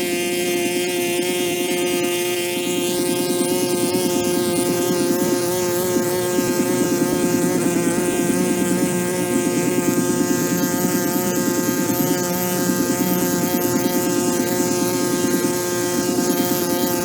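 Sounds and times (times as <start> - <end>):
motor running with high drone: 0.0 - 17.0.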